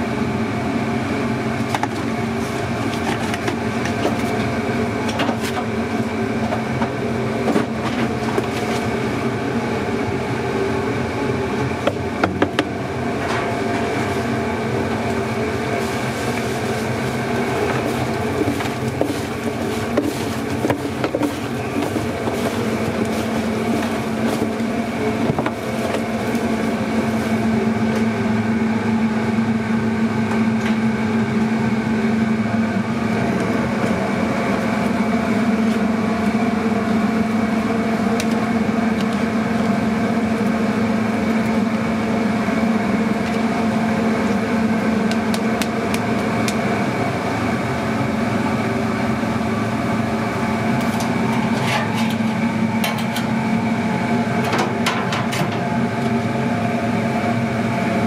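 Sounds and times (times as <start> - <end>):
kitchen ventilation hum: 0.0 - 58.0.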